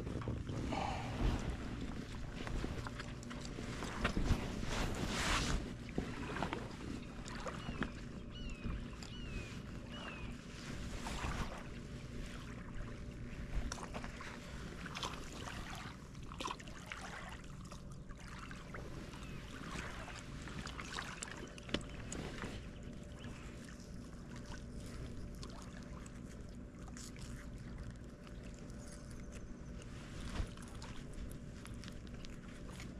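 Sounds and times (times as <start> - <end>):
low steady rumble: 0.0 - 32.9.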